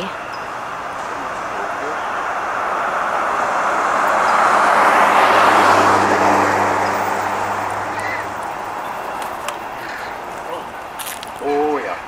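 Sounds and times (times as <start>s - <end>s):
car passing by: 0.0s - 12.0s.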